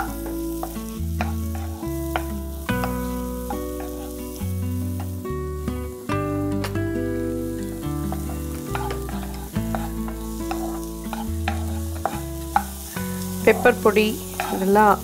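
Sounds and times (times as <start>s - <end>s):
spatula scraping pan: 0.0s - 5.2s, 8.0s - 15.0s
background music with held chords: 0.0s - 15.0s
onions sizzling in butter: 0.0s - 15.0s.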